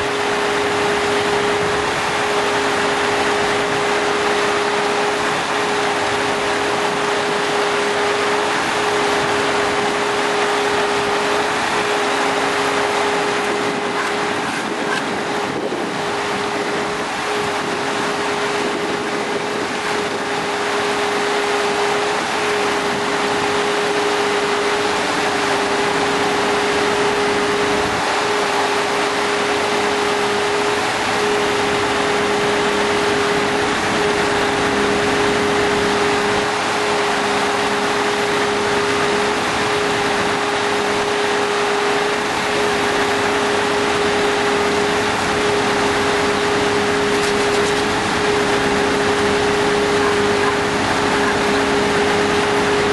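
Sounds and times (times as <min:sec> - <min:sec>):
machine humming: 0:00.0 - 0:52.9.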